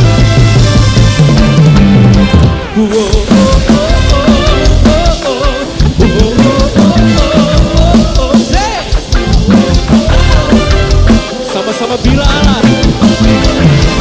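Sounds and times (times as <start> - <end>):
drum kit rock beat: 0.0 - 14.0
worship band music: 0.0 - 14.0.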